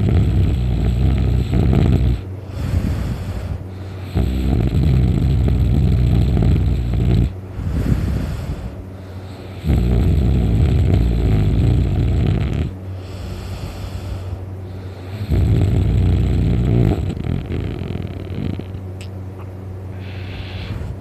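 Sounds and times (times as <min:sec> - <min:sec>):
man snoring heavily: 0:00.0 - 0:18.8, 0:19.9 - 0:21.0
quiet breaths: 0:00.0 - 0:18.8, 0:19.9 - 0:21.0.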